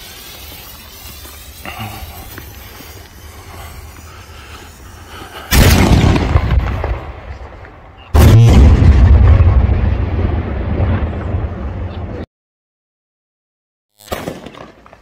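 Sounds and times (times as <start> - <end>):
firework bangs: 0.0 - 11.8, 14.0 - 14.9.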